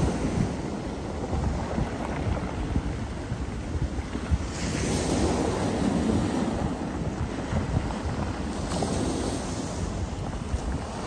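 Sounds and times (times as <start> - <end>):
surf washing up pebble beach: 0.0 - 11.0
wind buffeting microphone: 0.0 - 11.0.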